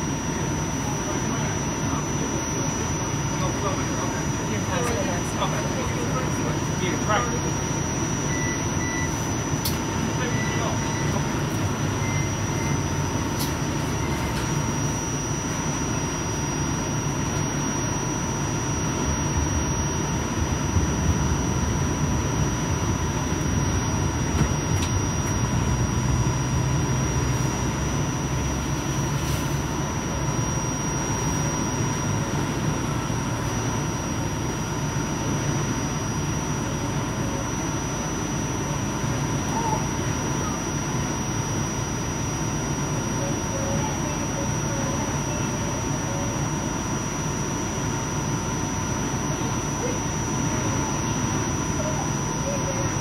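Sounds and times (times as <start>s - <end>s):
faint high whine: 0.0s - 53.0s.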